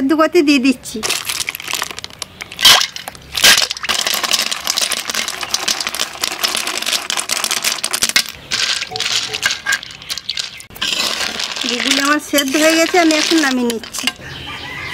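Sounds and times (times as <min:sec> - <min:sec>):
snail shells clattering in a metal wok: 0:01.0 - 0:14.2.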